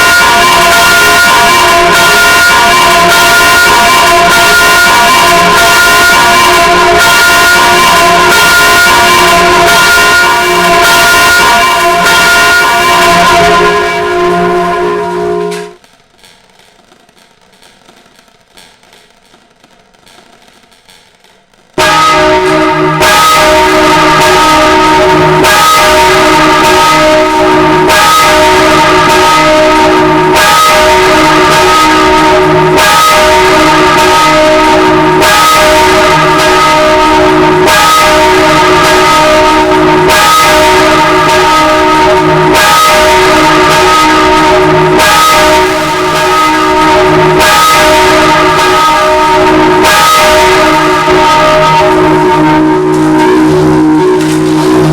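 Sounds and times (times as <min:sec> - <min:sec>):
church bells ringing: 0:00.0 - 0:15.8, 0:21.8 - 0:54.9.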